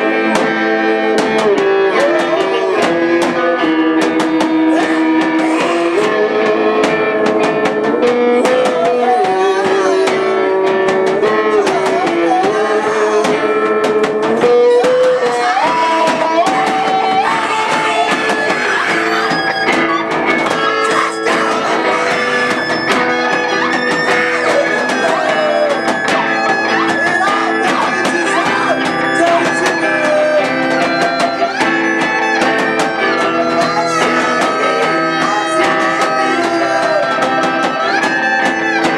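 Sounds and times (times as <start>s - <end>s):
drum kit: 0.0s - 38.9s
electric guitar: 0.0s - 38.9s
person singing: 0.0s - 38.9s.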